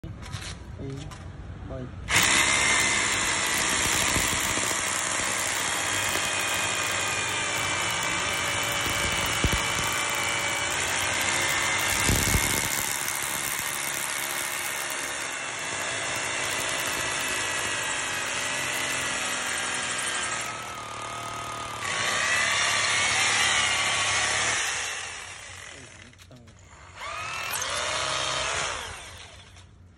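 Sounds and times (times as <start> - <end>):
rotary hammers drilling concrete: 2.1 - 29.6.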